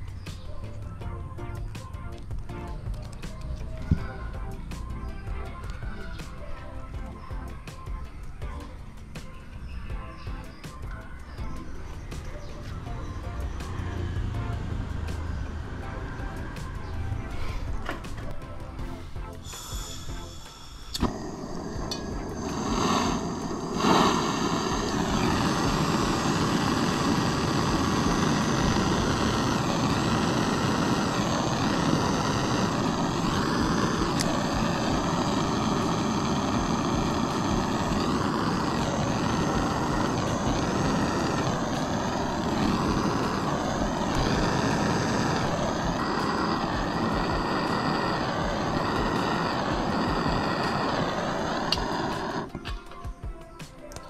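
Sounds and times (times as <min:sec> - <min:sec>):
torch flame hissing: 0:09.0 - 0:52.6.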